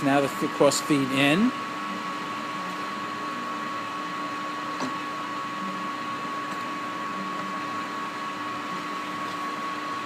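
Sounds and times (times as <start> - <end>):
lathe running: 0.0 - 10.0.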